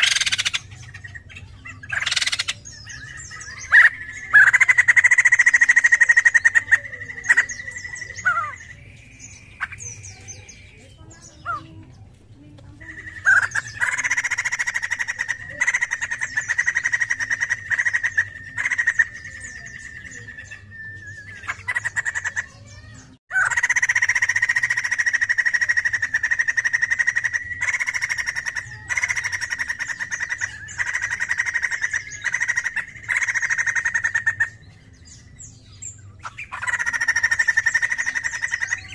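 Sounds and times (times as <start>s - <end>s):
laughingthrush rapid chattering song: 0.0s - 11.8s, 12.8s - 35.0s, 36.1s - 38.9s.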